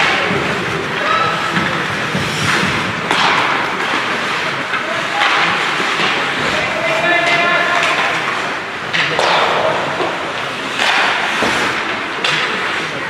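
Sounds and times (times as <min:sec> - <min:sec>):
hockey sticks and puck knocking: 0:00.0 - 0:13.0
skate blades scraping ice: 0:00.0 - 0:13.0.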